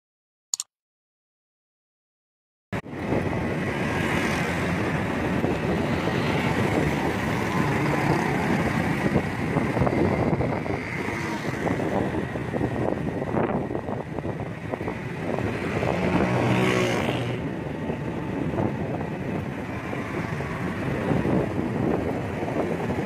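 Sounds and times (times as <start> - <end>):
motorcycles and cars passing: 2.9 - 23.0.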